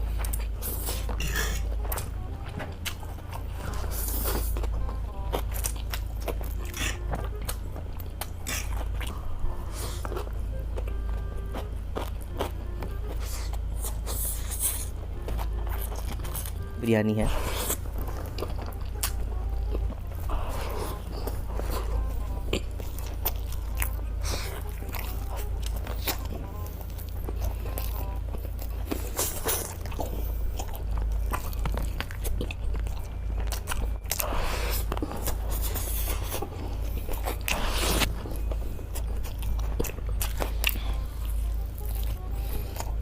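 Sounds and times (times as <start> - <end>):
close chewing and biting: 0.0 - 43.0
steady low hum: 0.0 - 43.0.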